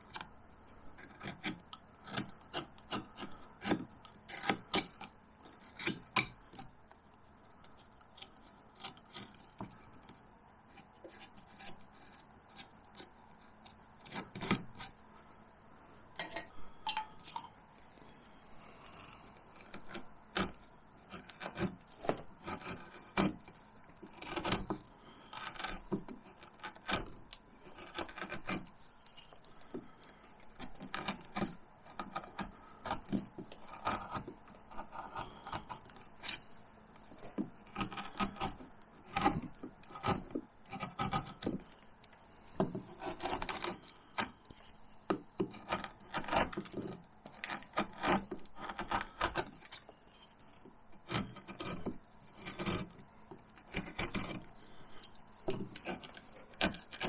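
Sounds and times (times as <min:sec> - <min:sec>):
gouge carving into bark: 0:00.0 - 0:15.4, 0:17.8 - 0:57.0.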